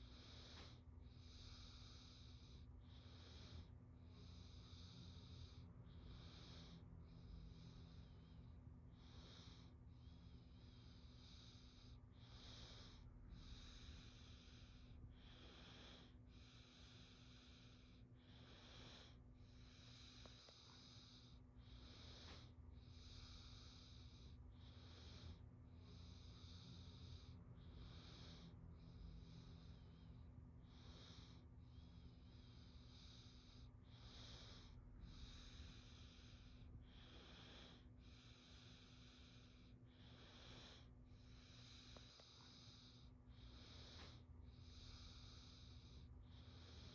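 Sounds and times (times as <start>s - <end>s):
faint steady hum: 0.0s - 46.9s
soft hissing breaths: 0.0s - 46.9s.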